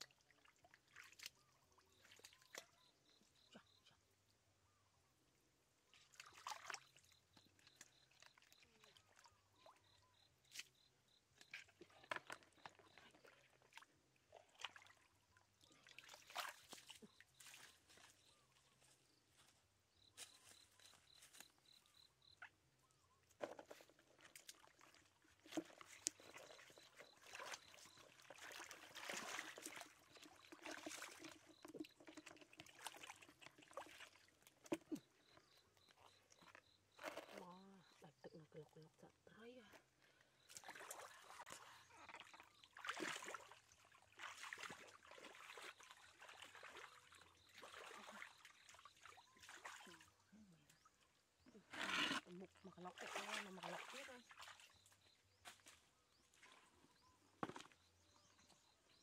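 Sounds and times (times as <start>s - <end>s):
water trickles and drips: 0.0s - 3.9s, 5.9s - 18.8s, 20.2s - 59.0s.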